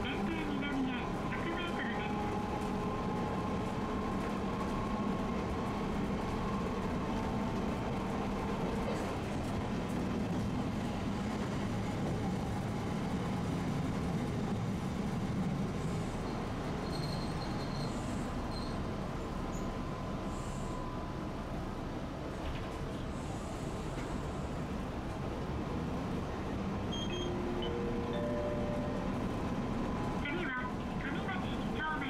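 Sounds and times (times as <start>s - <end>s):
streetcar rumbling on rails: 0.0s - 32.0s.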